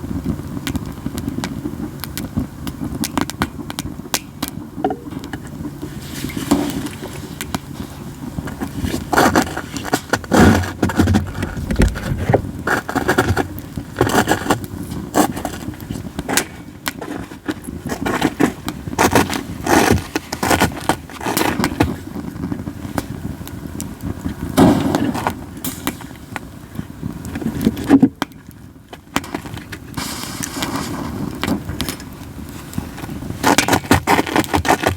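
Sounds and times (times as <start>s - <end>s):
low rumble of flames: 0.0s - 34.6s
campfire crackling and popping: 0.0s - 34.9s.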